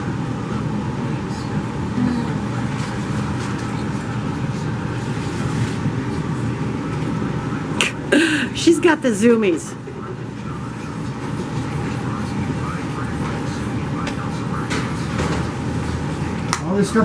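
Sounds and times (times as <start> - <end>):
ventilation fan rushing: 0.0 - 17.0.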